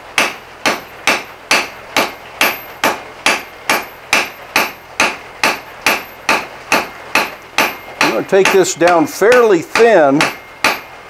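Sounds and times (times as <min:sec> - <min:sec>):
hammer striking steel on anvil: 0:00.2 - 0:10.9.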